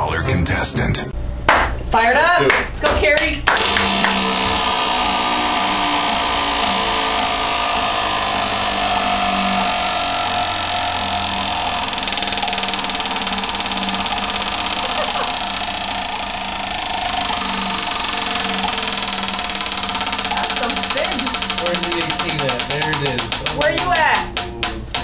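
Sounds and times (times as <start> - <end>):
prize wheel clicking: 3.5 - 25.0.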